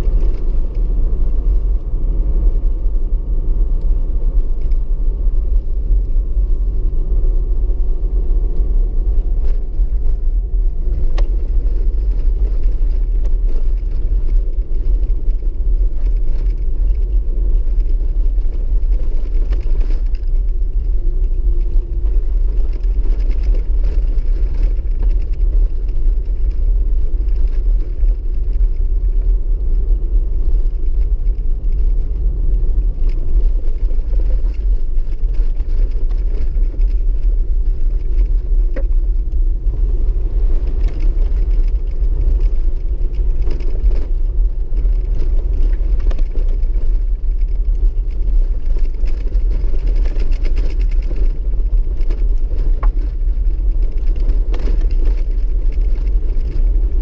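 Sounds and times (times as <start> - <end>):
diesel engine rumble: 0.0 - 57.0.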